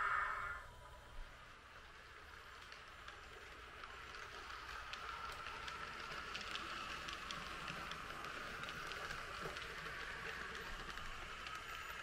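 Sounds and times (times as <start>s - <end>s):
model train motor whirring: 1.5s - 12.0s
light clicks of wheels: 1.8s - 12.0s.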